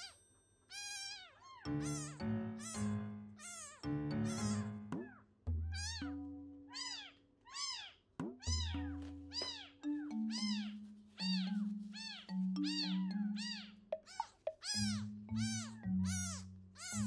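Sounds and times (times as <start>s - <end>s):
soft background music: 0.7s - 7.2s, 8.2s - 17.0s
kitten mewing: 0.7s - 17.0s.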